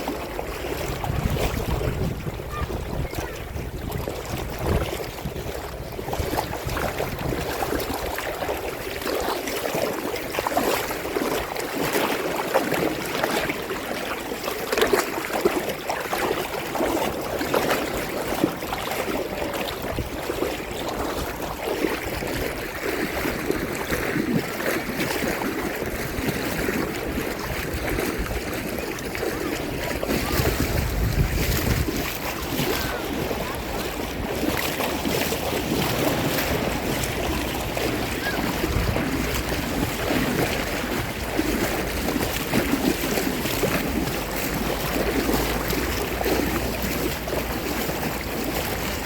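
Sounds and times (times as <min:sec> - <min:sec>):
wind rumble on microphone: 0:00.0 - 0:14.9, 0:16.2 - 0:49.0
sea water lapping in small waves: 0:00.0 - 0:49.0
small splashes: 0:00.0 - 0:49.0.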